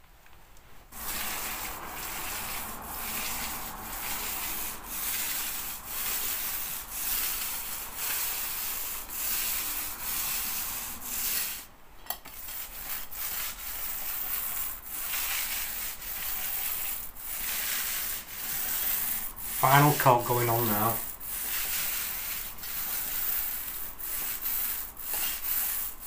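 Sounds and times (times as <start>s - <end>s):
paint roller hissing on wall: 0.8s - 11.7s, 12.3s - 26.0s.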